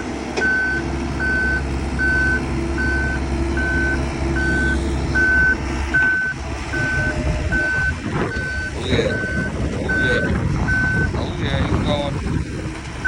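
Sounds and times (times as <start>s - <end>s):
diesel engine running: 0.0s - 13.0s
travel alarm beeping: 0.4s - 11.1s.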